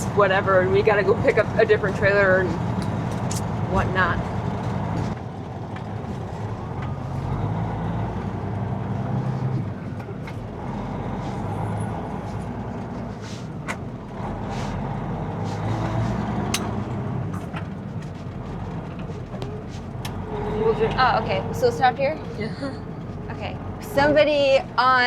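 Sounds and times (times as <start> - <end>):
diesel truck engine drone: 0.0 - 25.0.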